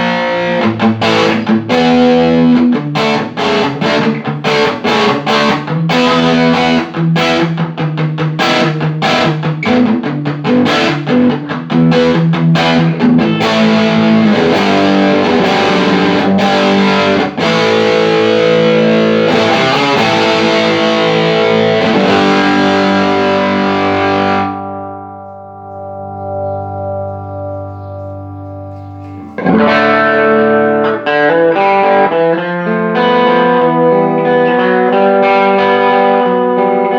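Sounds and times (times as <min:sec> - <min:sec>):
distorted electric guitar chords: 0:00.0 - 0:36.9.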